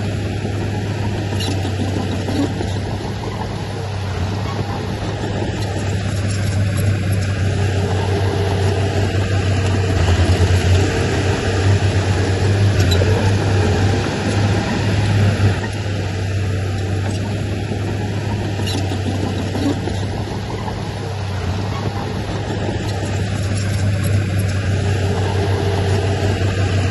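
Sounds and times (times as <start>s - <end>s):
diesel engine low drone: 0.0s - 26.9s.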